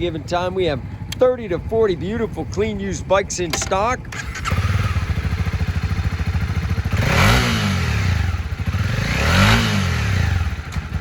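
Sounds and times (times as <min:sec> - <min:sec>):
engine throttle blips: 0:00.0 - 0:11.0
motorcycle engine idling: 0:00.0 - 0:11.0.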